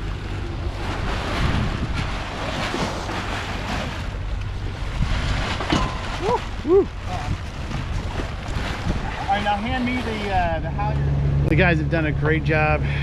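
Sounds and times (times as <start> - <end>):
wind buffeting microphone: 0.0 - 11.7
steady low rumble: 0.0 - 13.0
water rushing along hull: 0.0 - 13.0.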